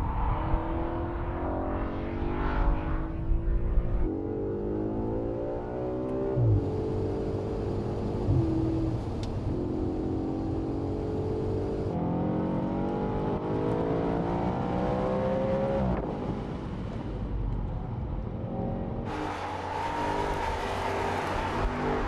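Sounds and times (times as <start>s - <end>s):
wind and tyre noise: 0.0s - 22.0s.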